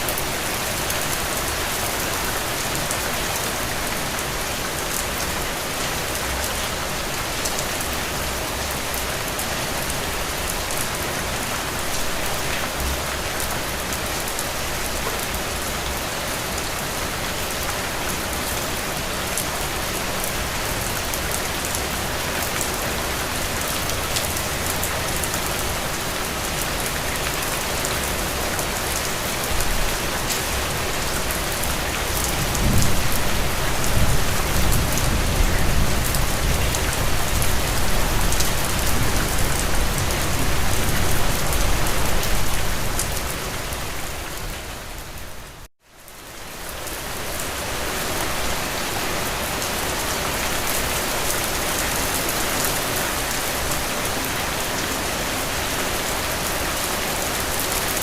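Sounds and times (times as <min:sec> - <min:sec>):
heavy rain pattering: 0:00.0 - 0:45.7, 0:46.4 - 0:58.0.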